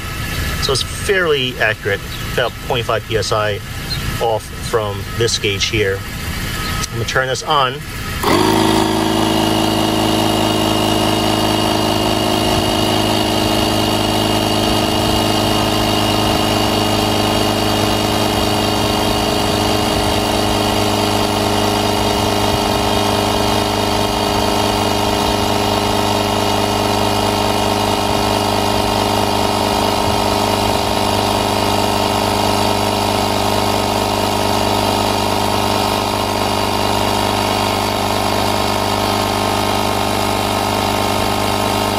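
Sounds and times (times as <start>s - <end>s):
electric tire inflator running: 0.0s - 41.9s.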